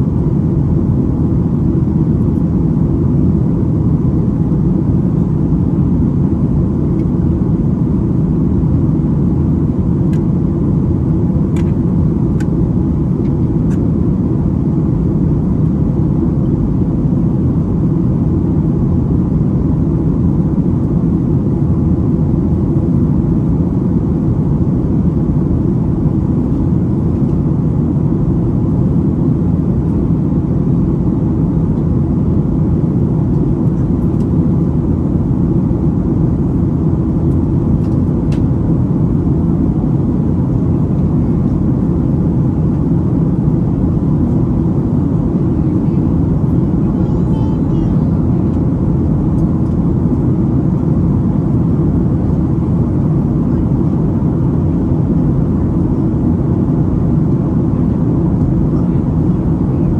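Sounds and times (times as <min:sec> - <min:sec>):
jet engines rumbling in cabin: 0:00.0 - 0:59.9.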